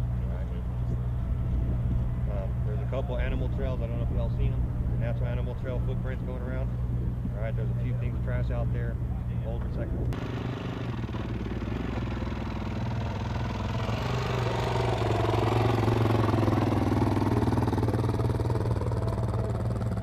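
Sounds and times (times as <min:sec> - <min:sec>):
off-road vehicle engine running: 0:00.0 - 0:20.0
steady low hum: 0:00.0 - 0:20.0.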